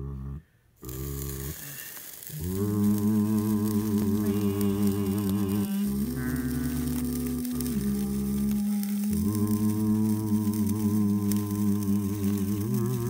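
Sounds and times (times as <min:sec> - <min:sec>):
low humming: 0:00.0 - 0:13.0.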